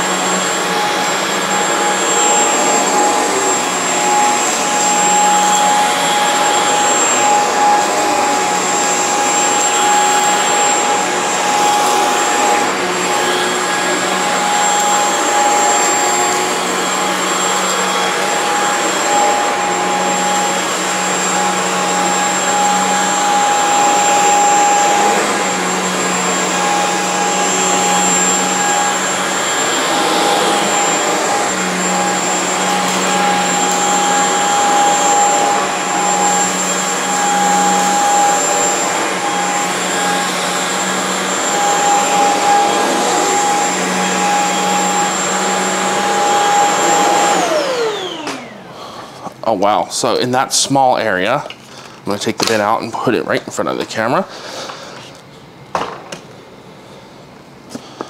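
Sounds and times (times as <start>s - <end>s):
stick vacuum running on carpet: 0.0s - 49.8s.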